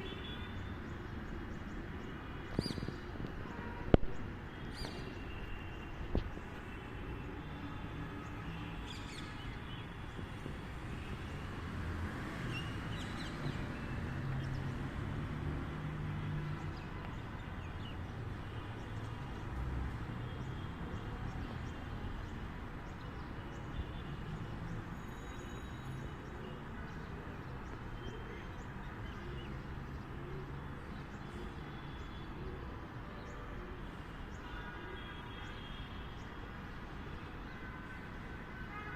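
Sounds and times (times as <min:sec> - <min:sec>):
urban hum and traffic rumble: 0:00.0 - 0:38.9.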